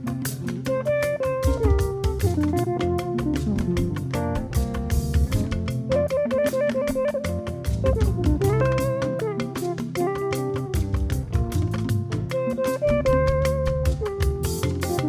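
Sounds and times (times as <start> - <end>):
bass guitar: 0.0 - 15.0
busy drum kit beat: 0.0 - 15.0
guitar melody: 0.0 - 15.0.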